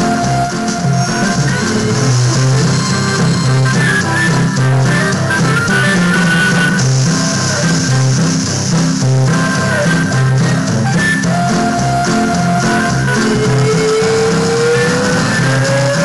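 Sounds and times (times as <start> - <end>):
rock music with guitar: 0.0 - 16.0
stepping bass line: 0.0 - 16.0.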